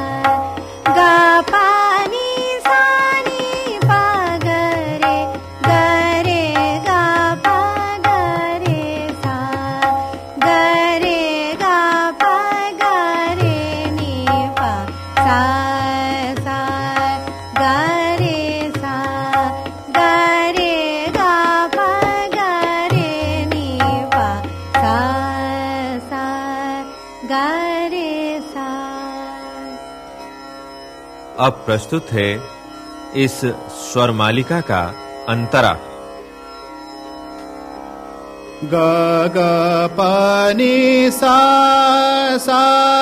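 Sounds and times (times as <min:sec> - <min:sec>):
tabla: 0:00.0 - 0:29.9, 0:31.4 - 0:36.0, 0:38.6 - 0:43.0.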